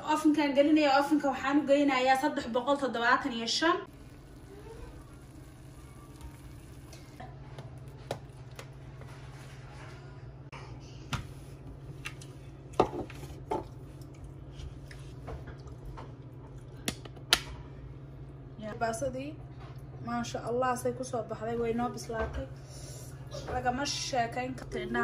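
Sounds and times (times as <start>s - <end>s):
steady low hum: 3.8s - 25.0s.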